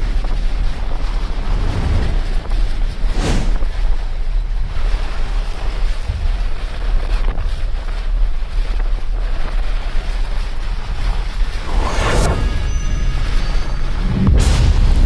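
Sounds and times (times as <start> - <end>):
deep continuous rumble: 0.0 - 15.0
dense rushing noise: 0.0 - 15.0.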